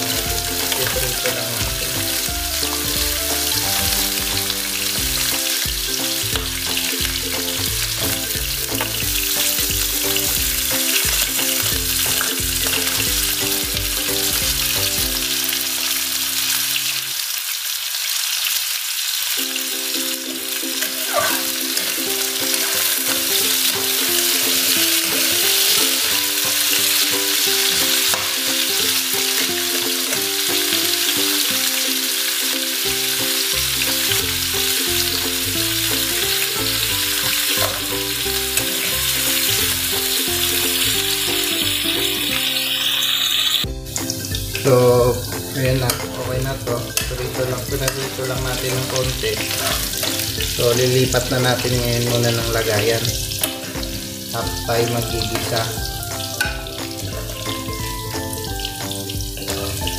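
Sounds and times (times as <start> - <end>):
quiet background music: 0.0 - 17.2, 19.4 - 59.9
vegetables sizzling in oil: 0.0 - 59.9.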